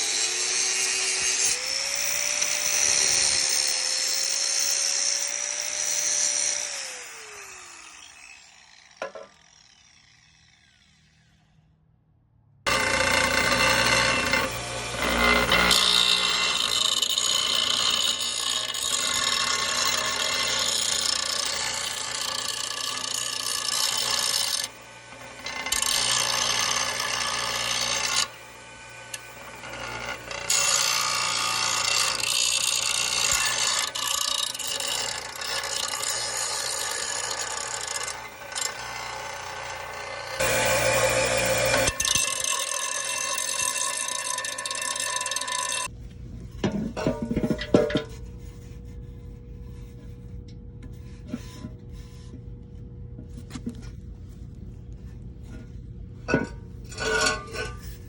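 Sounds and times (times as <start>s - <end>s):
power tool whining on metal: 0.0s - 11.6s, 12.7s - 46.0s, 56.3s - 58.0s.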